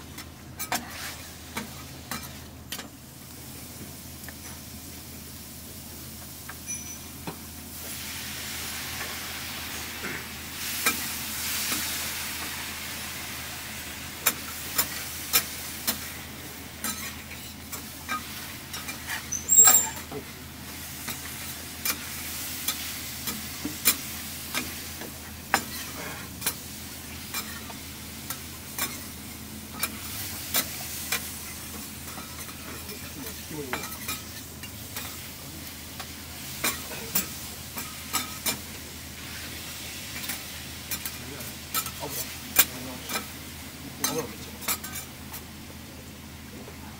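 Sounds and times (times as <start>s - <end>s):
meat sizzling: 7.4s - 45.6s.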